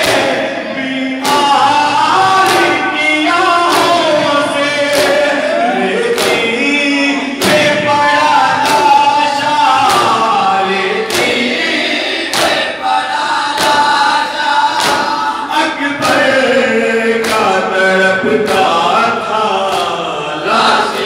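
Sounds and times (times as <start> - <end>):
crowd beating chests: 0.0 - 21.0
men chanting in unison: 0.0 - 21.0.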